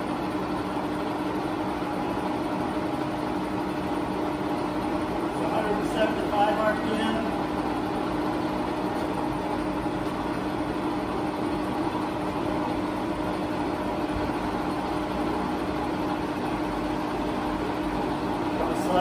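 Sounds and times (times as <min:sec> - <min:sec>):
lathe running: 0:00.0 - 0:19.0.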